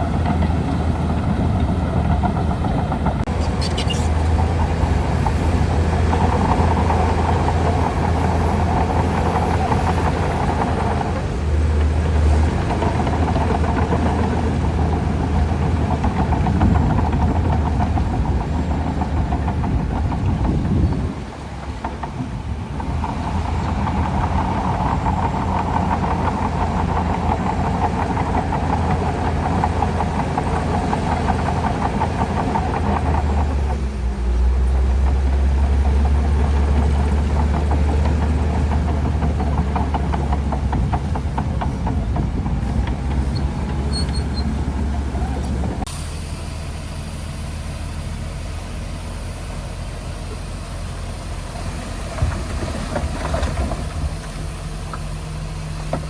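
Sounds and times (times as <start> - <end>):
bulldozer diesel engine rumbling: 0.0 - 56.0
high engine whine: 0.0 - 56.0.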